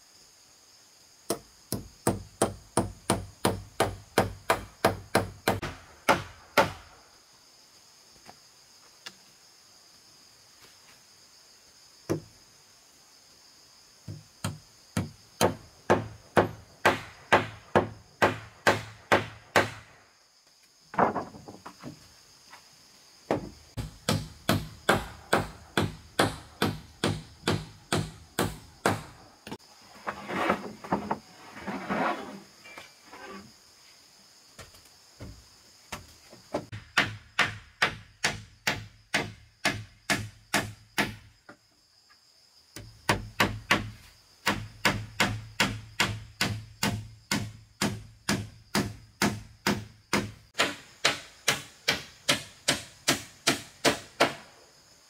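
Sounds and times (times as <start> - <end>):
high insect buzz: 0.0 - 55.0.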